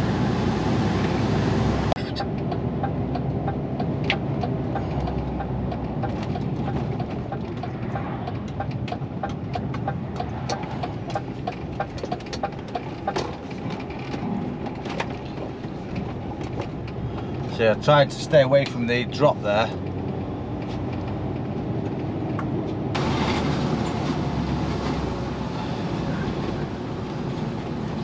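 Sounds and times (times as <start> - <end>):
lorry diesel engine: 0.0 - 28.0.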